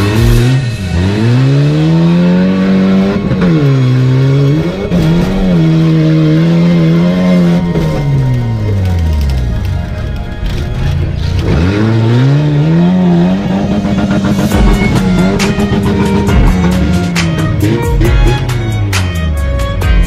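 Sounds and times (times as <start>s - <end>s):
car engine at high revs: 0.0s - 9.3s, 10.4s - 18.9s.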